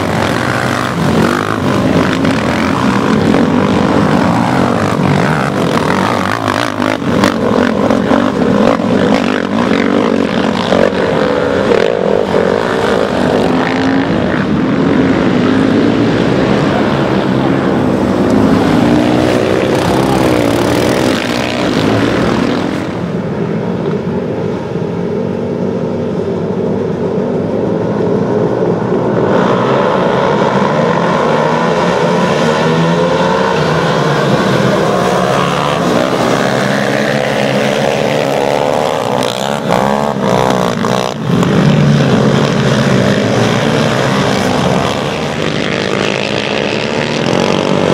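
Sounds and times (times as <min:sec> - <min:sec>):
quad bike engines revving: 0:00.0 - 0:47.9.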